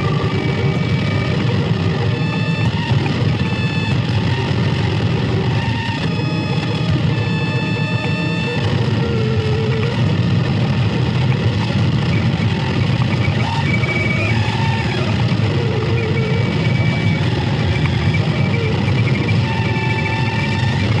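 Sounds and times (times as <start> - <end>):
distorted noise music rumbling: 0.0 - 21.0.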